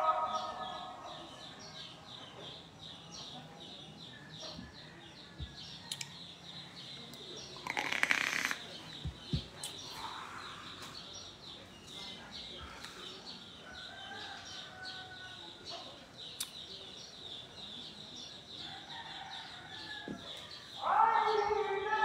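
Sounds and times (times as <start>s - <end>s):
birds chirping faintly: 0.0s - 22.0s.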